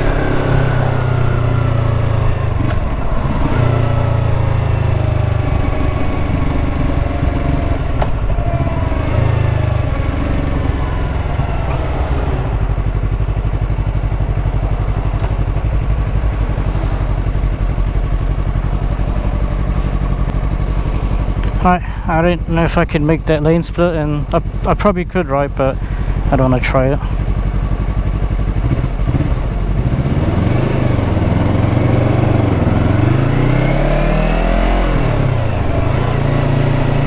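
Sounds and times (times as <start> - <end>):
motorcycle engine in traffic: 0.0 - 37.0.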